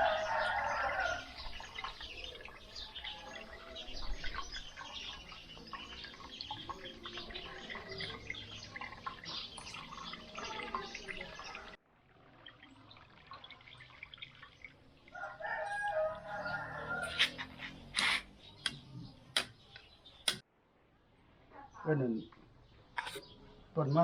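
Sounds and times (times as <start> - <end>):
small birds chirping: 0.0 - 20.5, 21.2 - 24.0.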